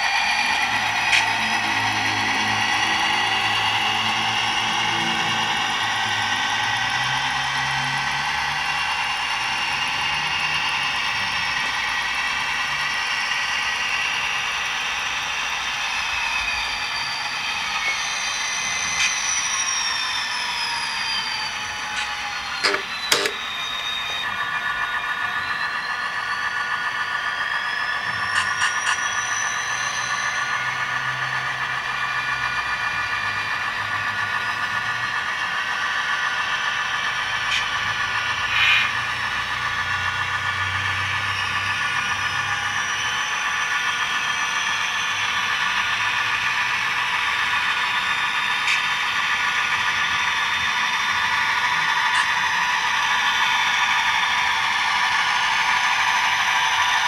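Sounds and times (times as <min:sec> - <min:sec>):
model locomotive diesel engine drone: 0:00.0 - 0:57.0
rising whine: 0:00.0 - 0:57.0.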